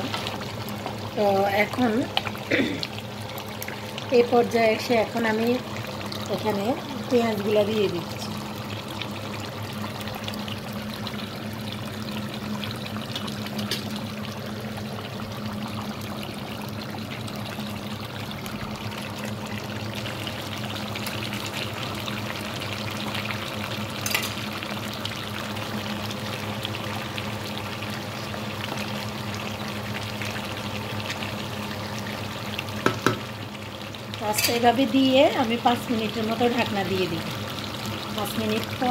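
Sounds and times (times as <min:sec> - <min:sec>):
curry bubbling in a pot: 0:00.0 - 0:38.9.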